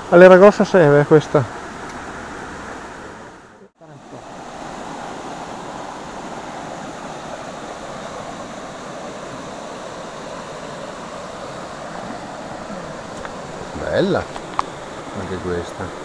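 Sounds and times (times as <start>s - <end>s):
river water running over stones: 0.0s - 16.0s.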